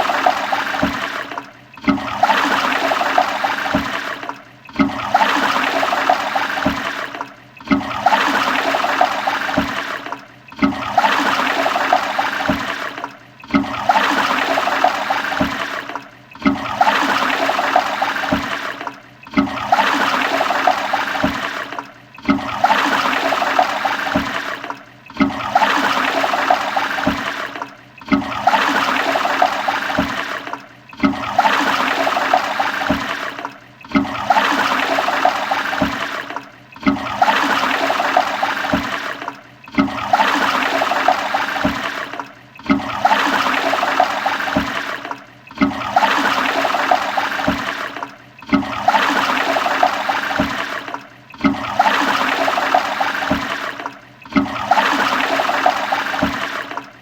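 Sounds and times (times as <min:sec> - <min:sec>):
toilet flushing: 0:00.0 - 0:57.0.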